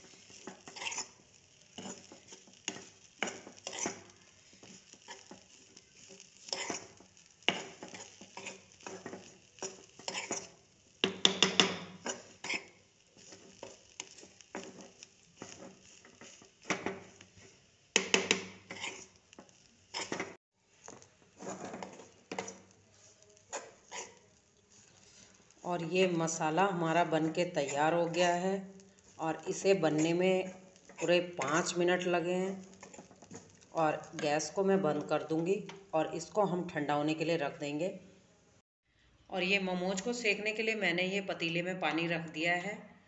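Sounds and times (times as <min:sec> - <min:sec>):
spatula scraping pan: 0:00.0 - 0:35.9.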